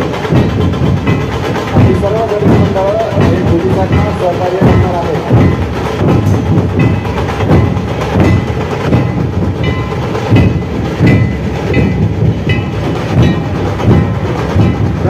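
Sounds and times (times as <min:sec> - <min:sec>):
barrel drums playing: 0:00.0 - 0:15.0.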